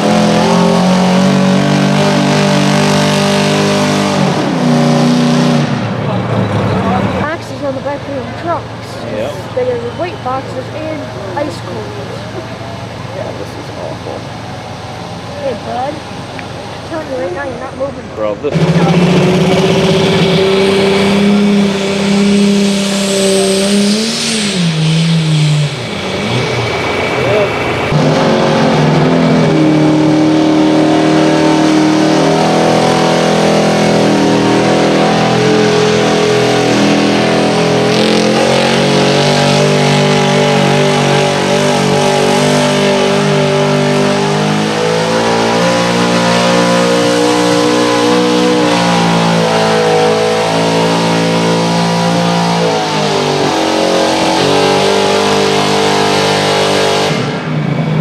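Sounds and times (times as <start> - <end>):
pickup engine revving hard: 0.0 - 58.0.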